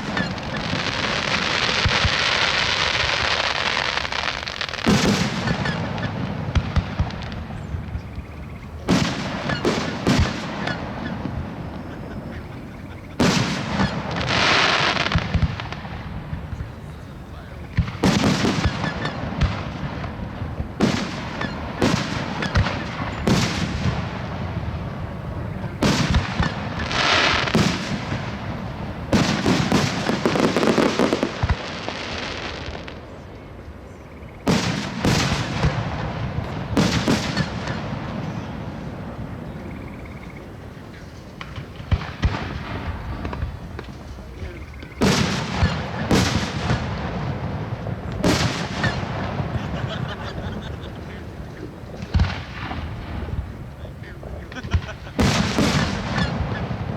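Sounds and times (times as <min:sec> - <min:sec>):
fireworks bangs: 0:00.0 - 0:56.9
hissing crackle of fireworks: 0:00.0 - 0:56.9.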